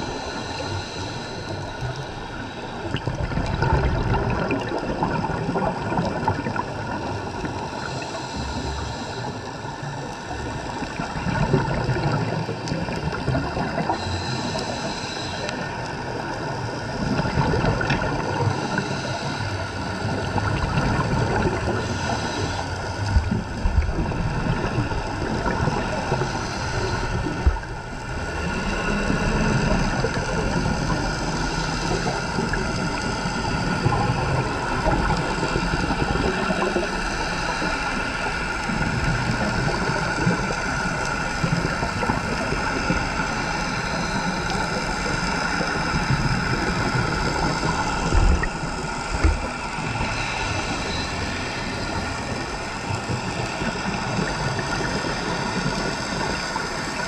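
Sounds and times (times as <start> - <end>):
muffled underwater noise: 0.0 - 57.0.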